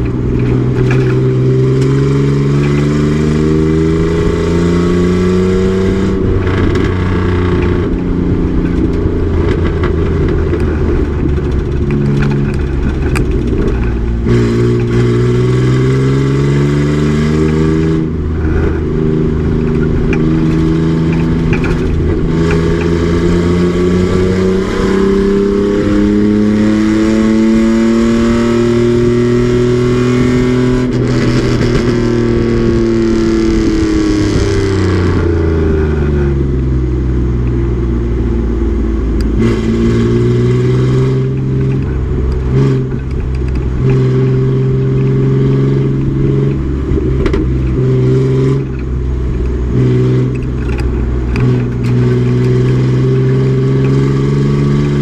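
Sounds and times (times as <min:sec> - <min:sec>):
race truck engine shifting gears: 0:00.0 - 0:55.0.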